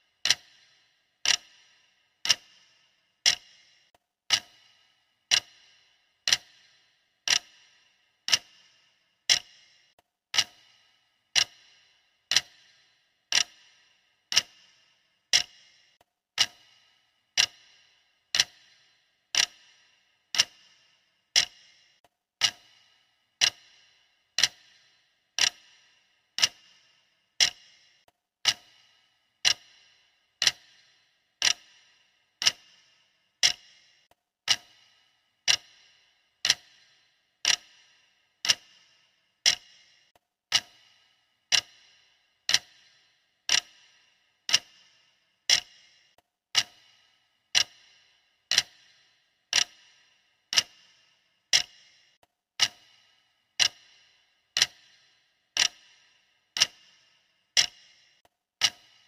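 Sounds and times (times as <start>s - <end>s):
clock ticking with metallic ring: 0.0s - 59.0s.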